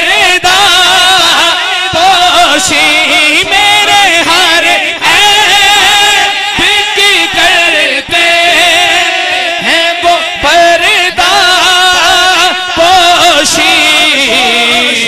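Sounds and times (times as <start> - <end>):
man singing through a microphone: 0.0 - 15.0.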